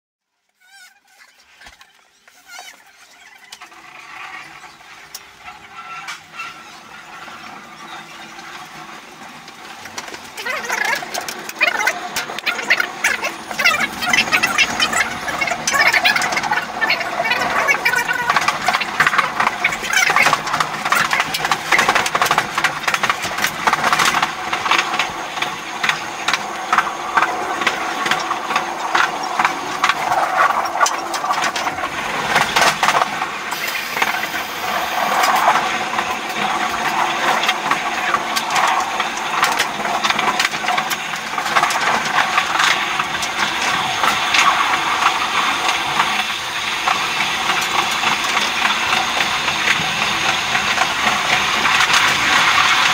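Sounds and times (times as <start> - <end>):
wheels clicking over rail joints: 0.5 - 52.9
sped-up train rattle: 2.8 - 52.9.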